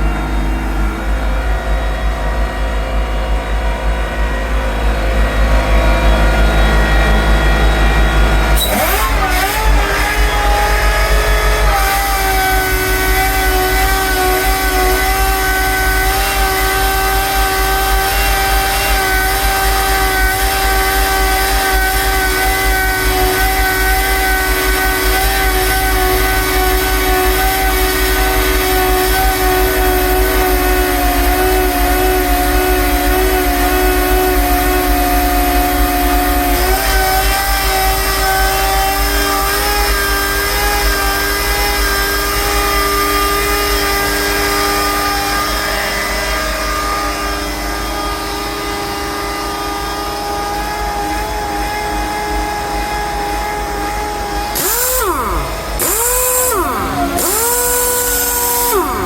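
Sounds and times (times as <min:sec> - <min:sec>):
air compressor whining: 0:00.0 - 0:59.0.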